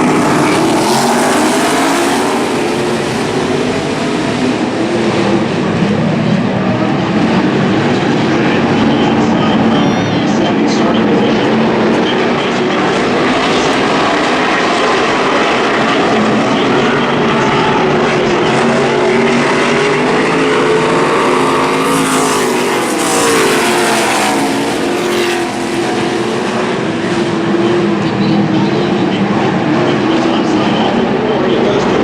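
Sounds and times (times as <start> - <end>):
race trucks passing at speed: 0.0 - 32.0.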